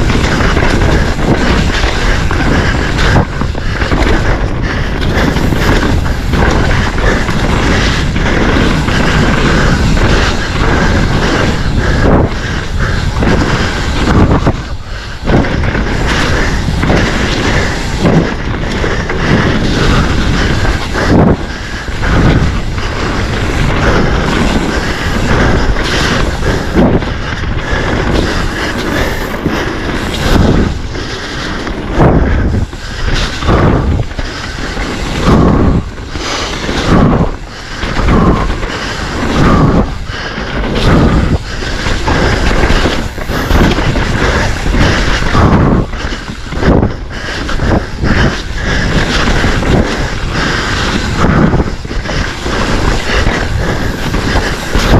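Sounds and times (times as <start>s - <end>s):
bike thuds and rattles: 0.0s - 54.9s
tyres rumbling on dirt: 0.0s - 54.9s
wind rushing over microphone: 0.0s - 54.9s.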